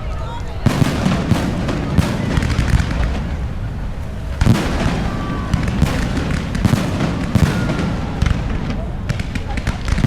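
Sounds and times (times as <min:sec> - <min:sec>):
continuous rumble: 0:00.0 - 0:10.0
fireworks booming and crackling: 0:00.0 - 0:10.0.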